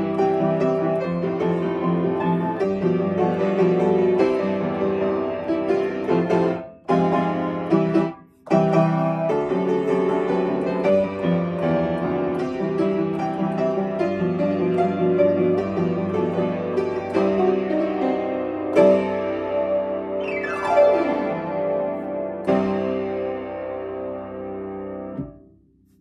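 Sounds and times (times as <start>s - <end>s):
upright piano melody: 0.0s - 25.5s.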